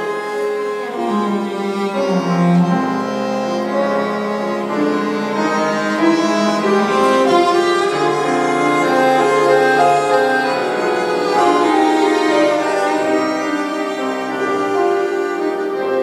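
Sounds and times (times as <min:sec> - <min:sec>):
bandoneon: 0:00.0 - 0:16.0
bowed cello long notes: 0:00.0 - 0:16.0
piano: 0:00.0 - 0:16.0.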